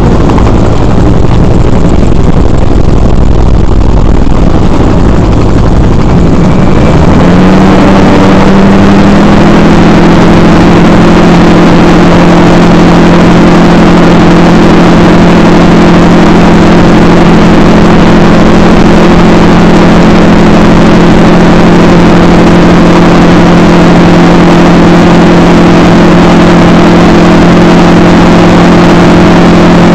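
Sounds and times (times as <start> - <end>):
model aircraft motor droning: 0.0 - 29.9
wind rush: 0.0 - 29.9.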